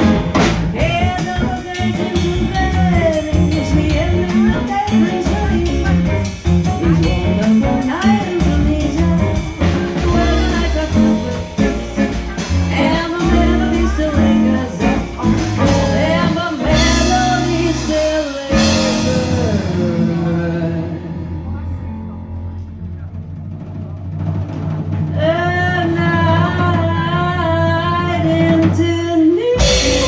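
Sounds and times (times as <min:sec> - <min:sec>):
person singing: 0:00.0 - 0:22.2, 0:25.2 - 0:30.0
jazz band playing: 0:00.0 - 0:30.0.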